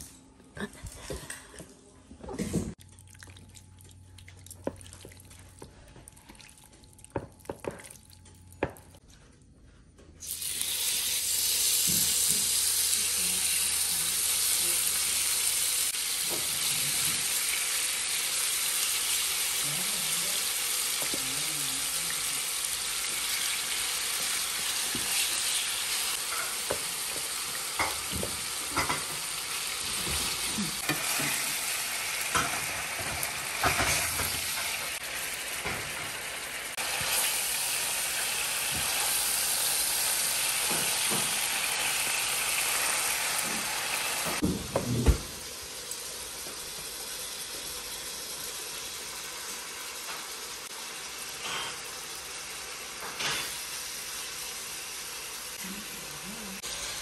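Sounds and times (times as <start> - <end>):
chicken sizzling in oil: 10.2 - 55.9, 56.5 - 57.0.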